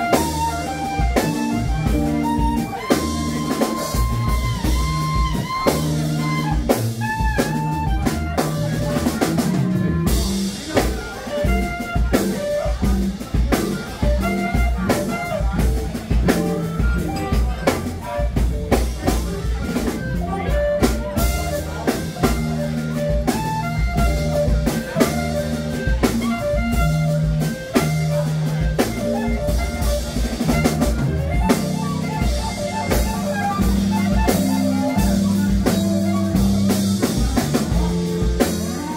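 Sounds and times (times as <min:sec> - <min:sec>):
clarinet melody: 0:00.0 - 0:38.9
drum kit: 0:00.0 - 0:38.9
electric guitar: 0:00.0 - 0:38.9
upright bass: 0:00.0 - 0:38.9.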